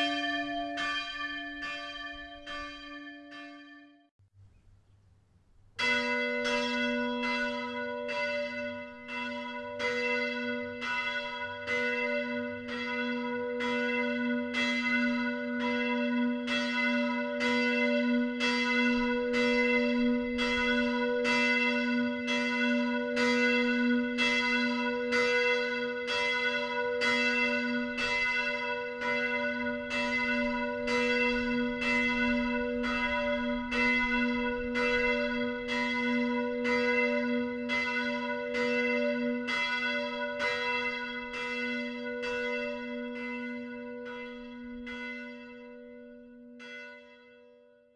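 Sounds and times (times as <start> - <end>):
church bell ringing: 0.0 - 4.1, 5.8 - 47.9.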